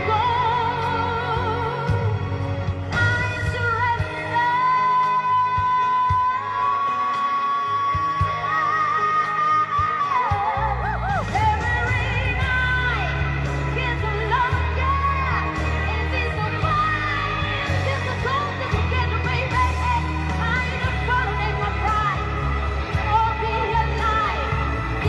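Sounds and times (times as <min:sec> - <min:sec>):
backing track with heavy bass: 0:00.0 - 0:25.0
high voice singing pop song: 0:00.0 - 0:25.0.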